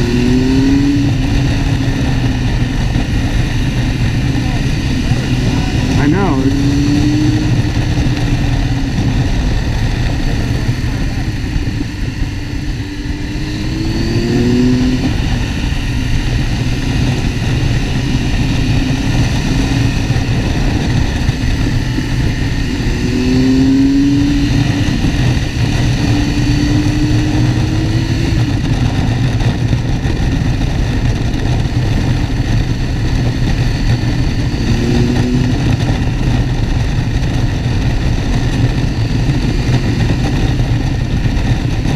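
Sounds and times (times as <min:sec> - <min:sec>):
motorcycle engine running: 0:00.0 - 0:41.9
wind rumble on microphone: 0:00.0 - 0:41.9.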